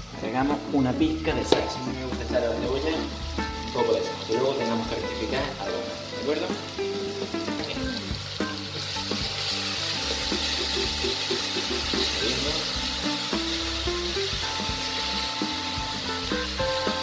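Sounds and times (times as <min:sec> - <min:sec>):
background music: 0:00.0 - 0:17.0
garlic and onion sizzling in oil: 0:00.0 - 0:17.0.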